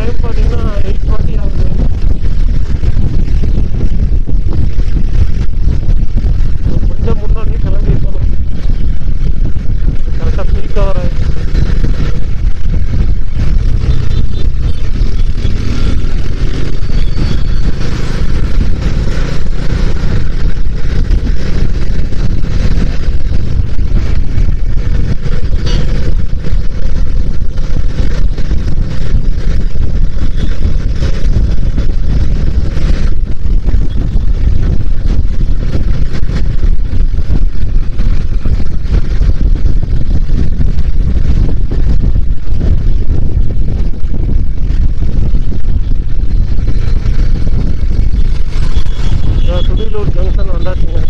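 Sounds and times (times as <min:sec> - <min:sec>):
motorcycle engine and wind rumble: 0:00.0 - 0:51.0.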